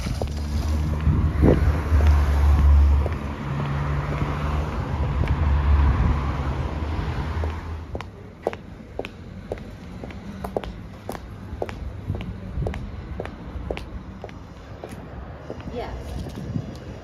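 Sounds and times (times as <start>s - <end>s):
cars passing by: 0.0s - 17.0s.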